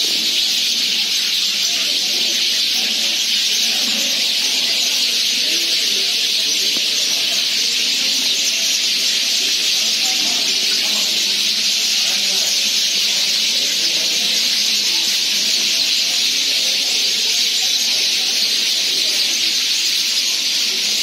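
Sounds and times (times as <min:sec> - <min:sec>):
flock of sparrows chirping: 0:00.0 - 0:21.0.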